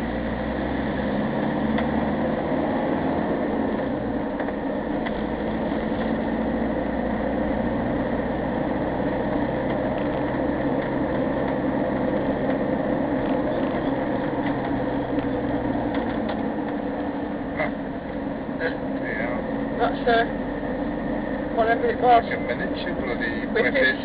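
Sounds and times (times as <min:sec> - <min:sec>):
road noise: 0:00.0 - 0:24.0
vehicle engine hum: 0:00.0 - 0:24.0.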